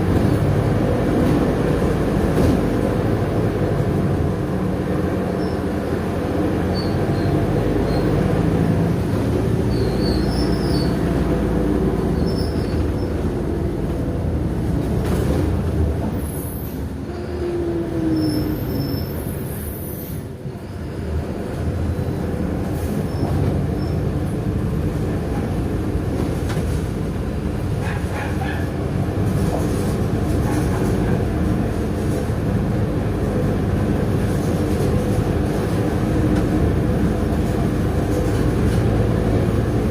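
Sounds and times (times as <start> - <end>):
bus diesel engine: 0.0 - 39.9
road rumble: 0.0 - 39.9.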